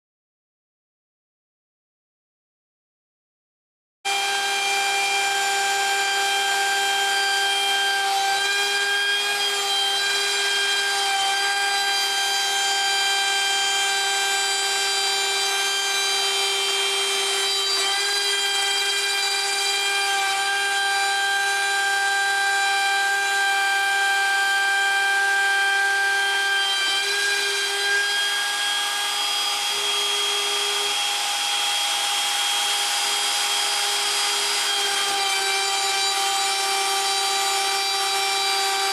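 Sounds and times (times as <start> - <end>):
router spindle whine: 4.1 - 38.9.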